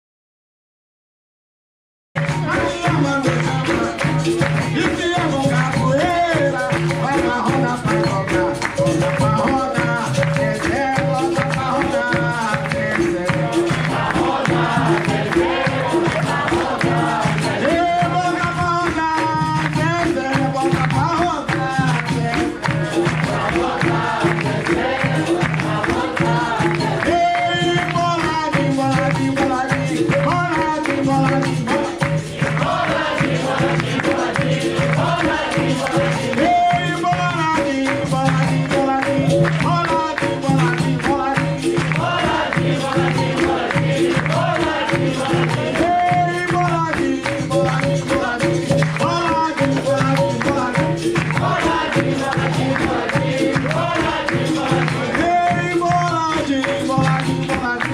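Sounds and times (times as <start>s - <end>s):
percussion beat: 2.2s - 57.9s
person singing: 2.3s - 57.9s.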